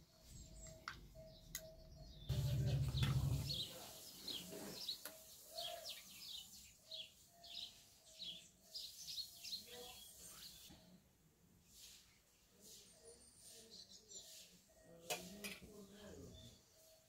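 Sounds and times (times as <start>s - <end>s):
small birds chirping: 0.0s - 10.9s, 11.7s - 17.0s.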